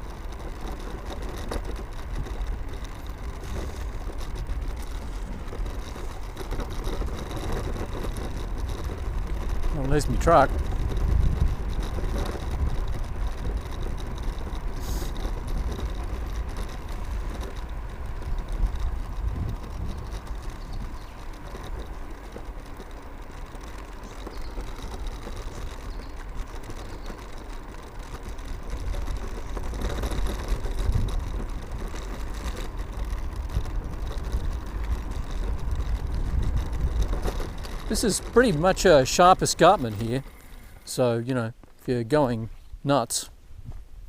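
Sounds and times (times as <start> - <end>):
wind rumbling on microphone: 0.0 - 40.9, 43.4 - 44.0
tyre and road noise: 0.0 - 44.0.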